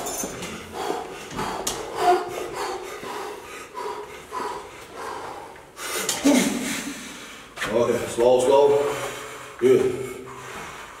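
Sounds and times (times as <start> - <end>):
sharp breaths through the nose: 0.0 - 7.6, 8.8 - 11.0.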